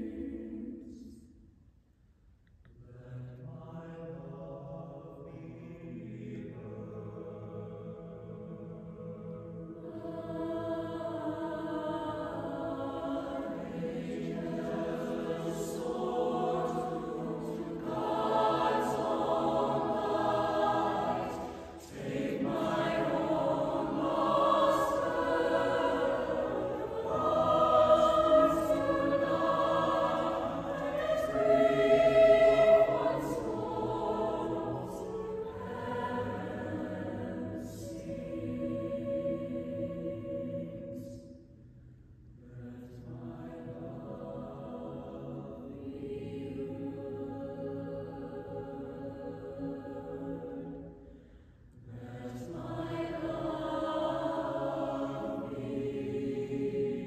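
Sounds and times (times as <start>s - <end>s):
choir singing unaccompanied: 0.0s - 1.2s, 2.8s - 41.3s, 42.4s - 51.0s, 51.8s - 57.0s.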